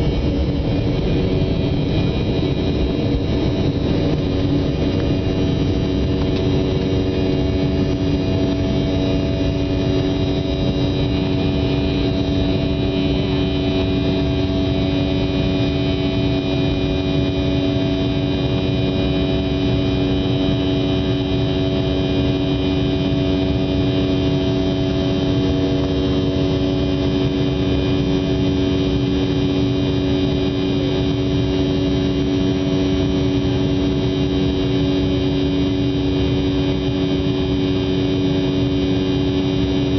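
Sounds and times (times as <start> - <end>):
aircraft propeller engine droning: 0.0 - 39.9.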